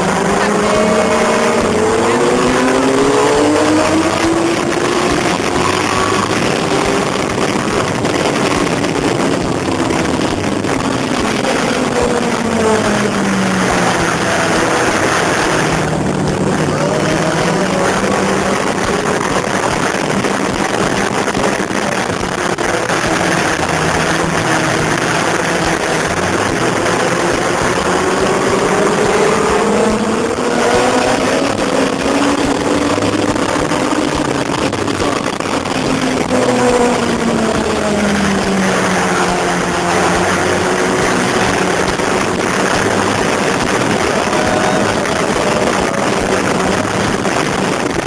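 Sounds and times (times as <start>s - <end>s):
motorcycle engine pulling hard: 0.0s - 48.0s
wind rushing over microphone: 0.0s - 48.0s.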